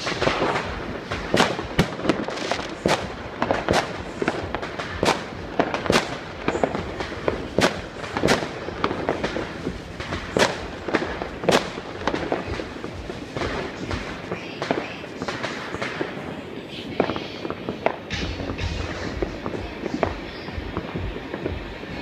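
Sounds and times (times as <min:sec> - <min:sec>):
distant firecracker crackle: 0:00.0 - 0:22.0
firework bangs: 0:00.0 - 0:22.0.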